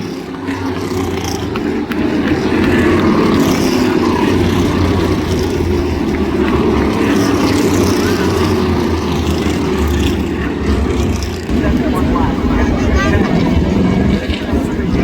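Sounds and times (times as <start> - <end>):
race car engines rumbling: 0.0 - 15.0.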